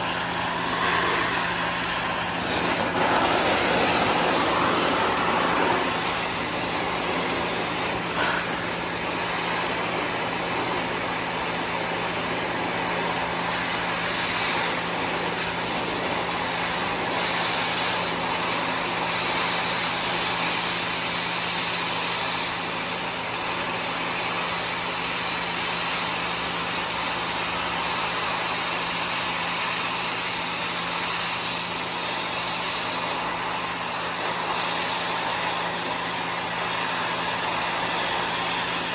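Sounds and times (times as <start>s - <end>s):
gas torch hissing: 0.0s - 38.9s.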